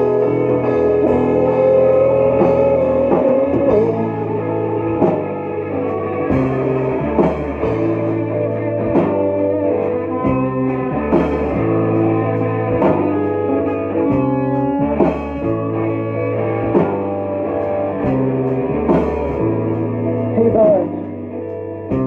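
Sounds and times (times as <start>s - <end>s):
bass guitar: 0.0s - 22.0s
drum kit: 0.0s - 22.0s
electric guitars: 0.0s - 22.0s.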